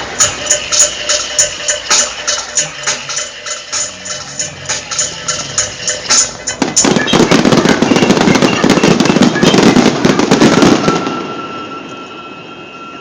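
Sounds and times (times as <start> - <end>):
show music with steady beat: 0.0 - 10.7
fireworks bursting and crackling: 0.0 - 13.0.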